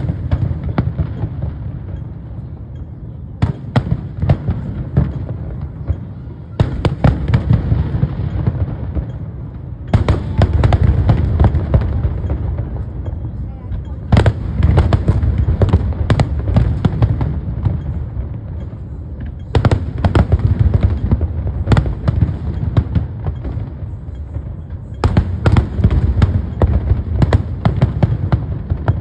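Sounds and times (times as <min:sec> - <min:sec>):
crackling firework reports: 0:00.0 - 0:29.0
firework bangs: 0:00.0 - 0:29.0.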